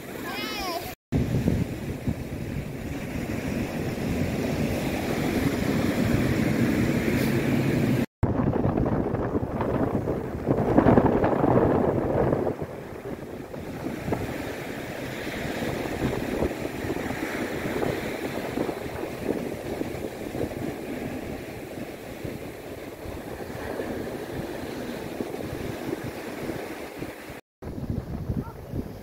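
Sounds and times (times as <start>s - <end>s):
sea surf on sandy beach: 0.0s - 29.0s
wind buffeting microphone: 0.0s - 29.0s.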